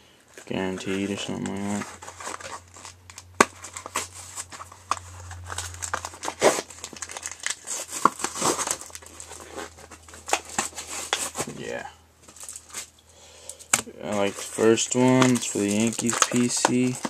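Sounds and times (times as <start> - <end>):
packaging crinkling and tearing: 0.3 - 11.5, 12.2 - 12.9, 14.1 - 17.0.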